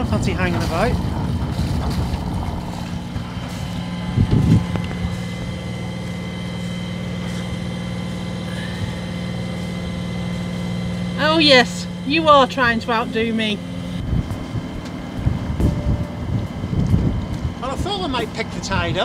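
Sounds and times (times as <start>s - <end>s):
rushing wind: 0.0s - 12.9s, 13.6s - 19.0s
boat engine droning: 0.0s - 19.0s
water noise: 0.0s - 19.0s.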